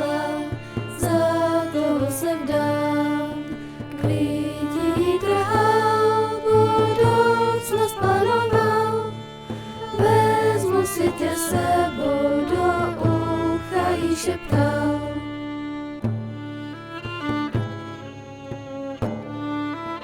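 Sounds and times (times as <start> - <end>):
person singing with accompaniment: 0.0 - 16.1.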